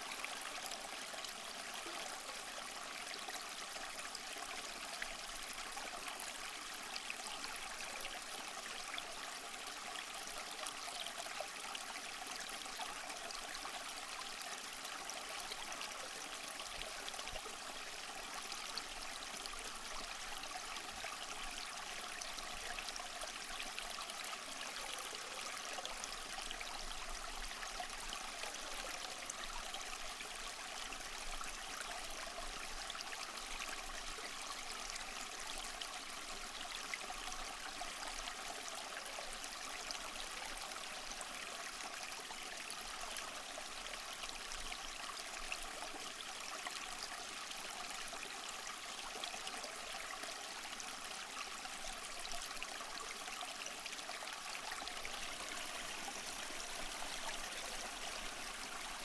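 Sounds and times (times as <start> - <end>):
small waterfall splashing over rocks: 0.0 - 59.0.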